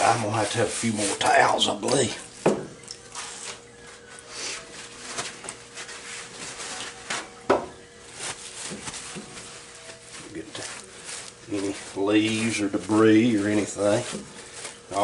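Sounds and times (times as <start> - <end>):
paper towels rustling: 0.0 - 2.4, 3.1 - 15.0.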